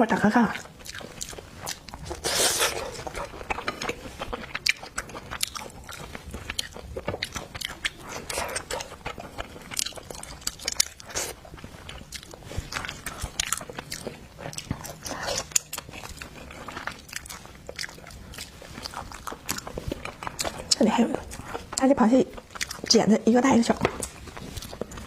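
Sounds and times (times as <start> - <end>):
biting and chewing: 0.5 - 23.0, 23.7 - 25.0.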